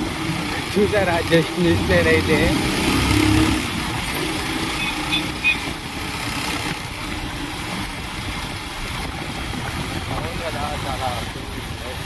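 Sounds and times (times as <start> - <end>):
motorbike engine and road noise: 0.0 - 12.0.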